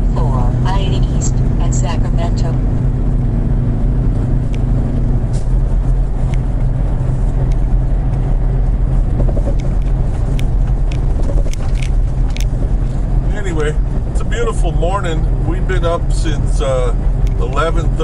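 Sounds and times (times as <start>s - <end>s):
truck engine and road drone: 0.0s - 18.0s.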